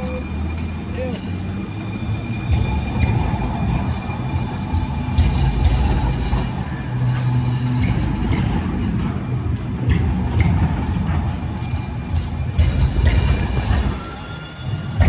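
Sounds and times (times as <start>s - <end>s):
light rail train rumbling past: 0.0s - 15.0s.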